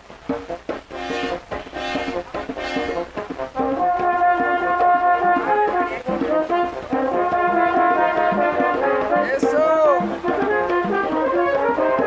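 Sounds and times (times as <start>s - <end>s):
barrel drum: 0.0s - 12.0s
french horns playing melody: 0.9s - 12.0s.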